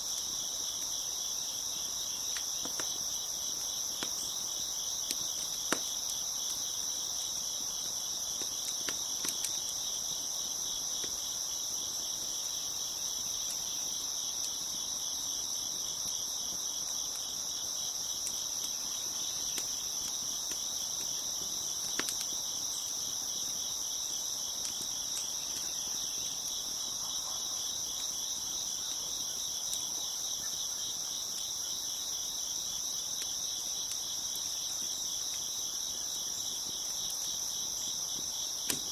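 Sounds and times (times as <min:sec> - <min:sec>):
wood fire crackling and popping: 0:00.0 - 0:27.0, 0:27.8 - 0:38.9
crickets chirping: 0:00.0 - 0:38.9.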